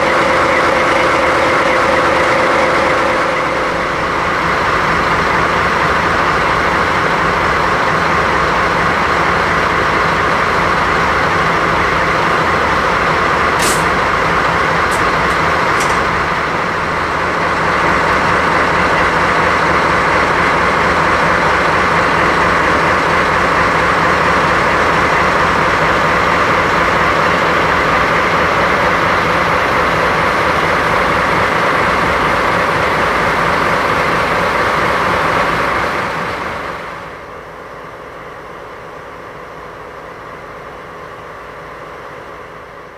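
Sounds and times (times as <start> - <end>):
diesel engines idling: 0.0 - 42.6.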